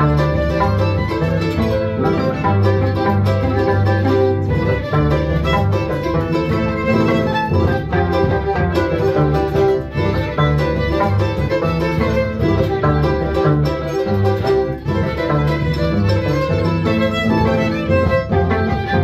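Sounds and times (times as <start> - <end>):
harp plucking bass notes: 0.0 - 19.0
violin melody: 0.0 - 19.0.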